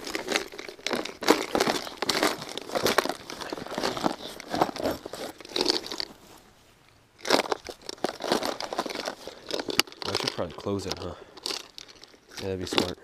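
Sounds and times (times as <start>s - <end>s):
tackle bag rustling: 0.0s - 13.0s.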